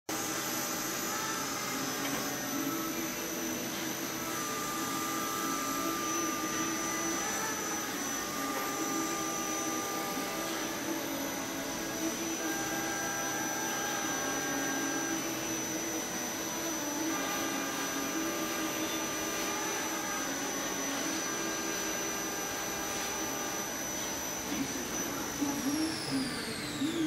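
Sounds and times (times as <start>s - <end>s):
machine spindle whining: 0.1s - 27.0s.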